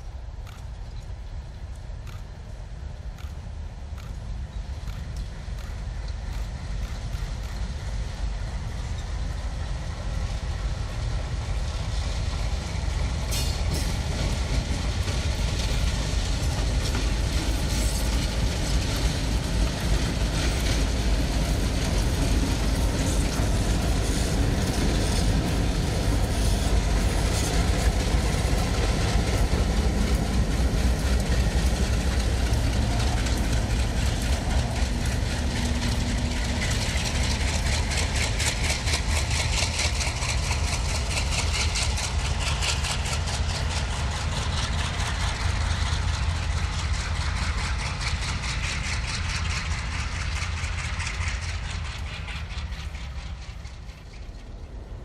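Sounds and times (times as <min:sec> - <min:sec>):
diesel locomotive engine rumble: 0:00.0 - 0:55.0.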